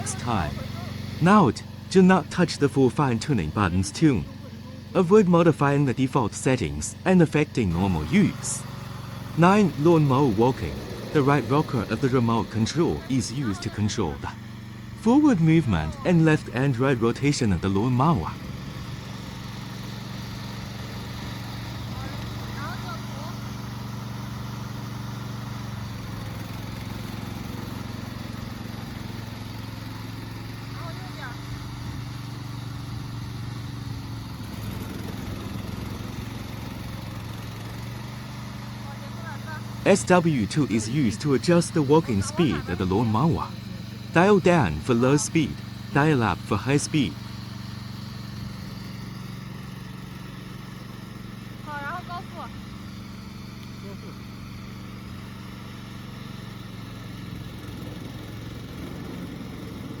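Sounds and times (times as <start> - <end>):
lawn mower engine running: 0.0 - 60.0.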